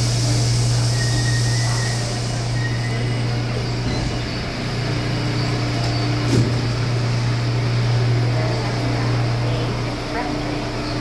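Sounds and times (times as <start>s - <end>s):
subway train low hum: 0.0s - 11.0s.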